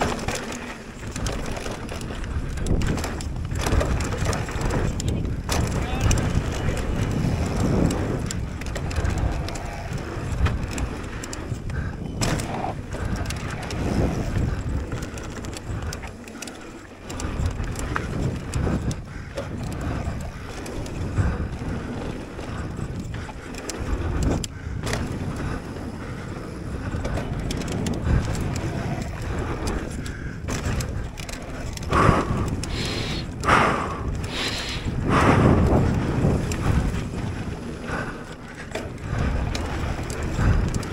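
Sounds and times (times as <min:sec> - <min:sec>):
bike rattling over bumps: 0:00.0 - 0:40.9
tyres on loose dirt: 0:00.0 - 0:40.9
wind buffeting microphone: 0:00.0 - 0:40.9.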